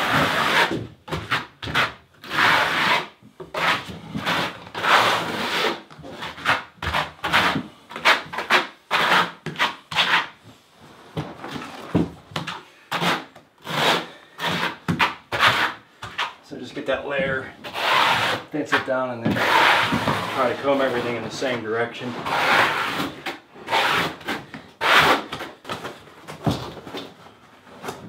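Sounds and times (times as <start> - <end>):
trowel scraping mortar: 0.0 - 10.4, 12.4 - 25.6.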